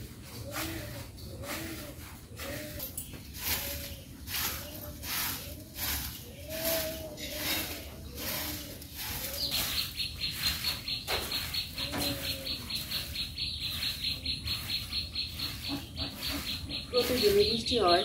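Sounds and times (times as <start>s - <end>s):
hand broom swishing on earth: 0.0s - 18.0s
low cooing calls: 0.1s - 18.0s.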